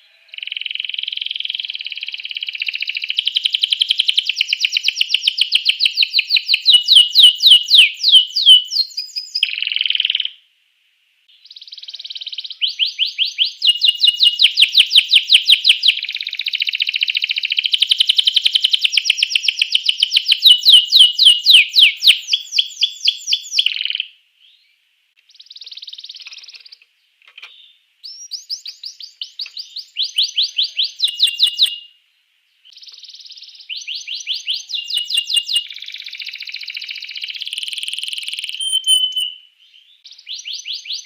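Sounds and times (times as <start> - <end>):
canary singing fast trills: 0.0 - 10.4, 11.3 - 26.8, 27.5 - 32.0, 32.6 - 41.0.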